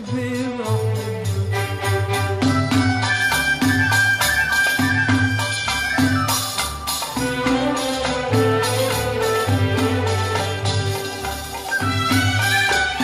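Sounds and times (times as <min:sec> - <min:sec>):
orchestral band playing: 0:00.0 - 0:13.0
percussion beat: 0:00.0 - 0:13.0
held melody line: 0:00.1 - 0:13.0.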